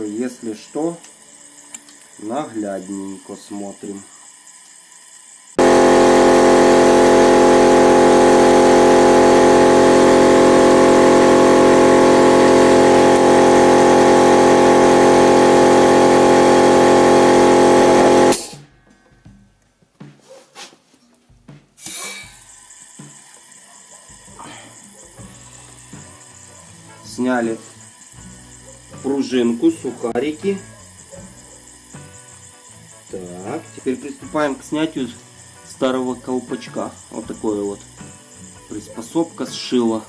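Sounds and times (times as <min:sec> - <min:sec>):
air compressor running: 0:00.0 - 0:18.6, 0:21.8 - 0:40.0.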